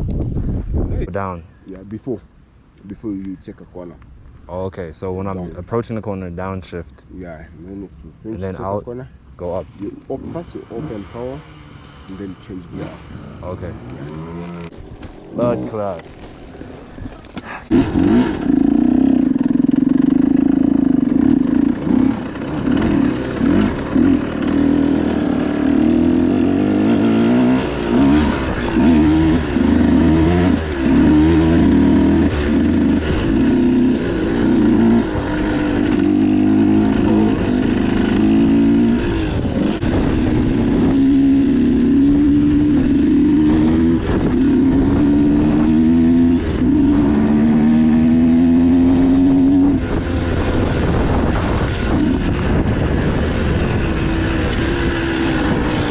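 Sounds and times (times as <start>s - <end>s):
dirt bike engine revving: 9.7s - 16.7s, 17.4s - 55.9s.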